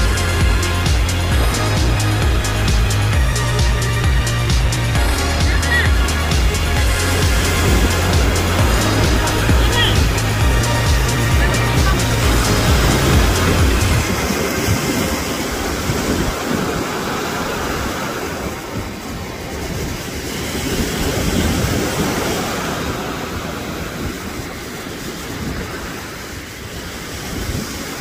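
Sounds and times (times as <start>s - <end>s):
sea waves breaking: 0.0s - 28.0s
wind rumbling on microphone: 0.0s - 28.0s.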